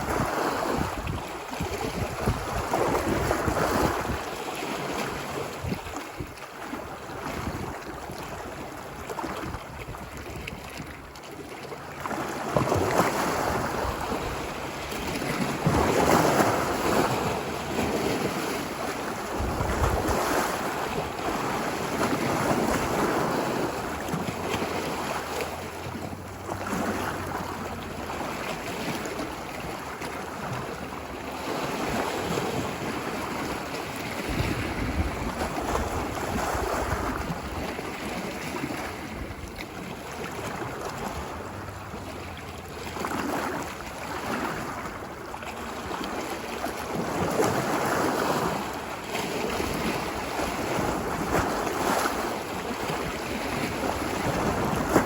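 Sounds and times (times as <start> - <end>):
wind rumbling on microphone: 0.0 - 11.2, 12.2 - 45.3, 46.7 - 55.0
ocean waves breaking on beach: 0.0 - 55.0.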